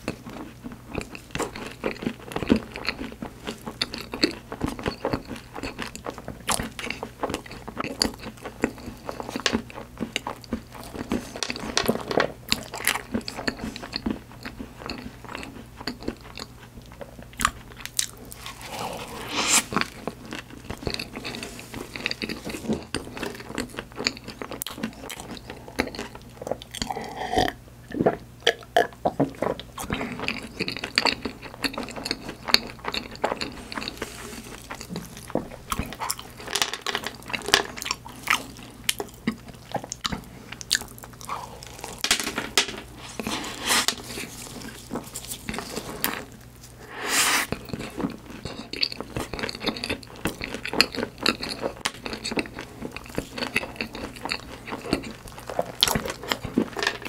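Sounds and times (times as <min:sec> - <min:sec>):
chewing with crunches: 0:00.0 - 0:57.0.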